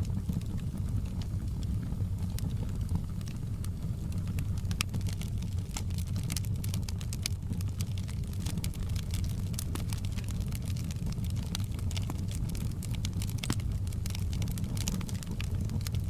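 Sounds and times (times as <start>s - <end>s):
fire crackling and popping: 0.0s - 16.0s
low rumble of burning: 0.0s - 16.0s.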